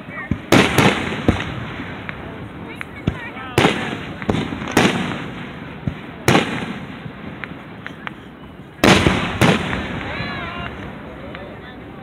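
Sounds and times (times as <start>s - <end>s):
sharp crack: 0.0s - 11.7s
firework crackles and pops: 0.0s - 12.0s
firework shells booming: 0.0s - 12.0s.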